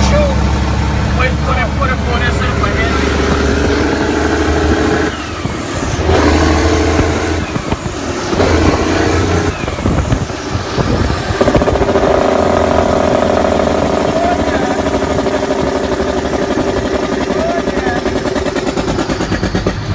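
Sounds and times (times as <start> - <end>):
diesel truck engine running: 0.0 - 19.9.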